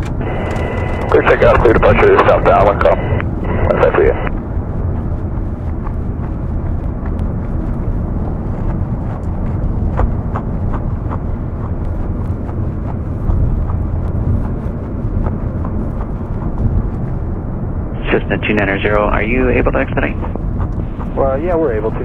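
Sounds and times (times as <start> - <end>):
jet engine rumbling with crackles: 0.0 - 22.0.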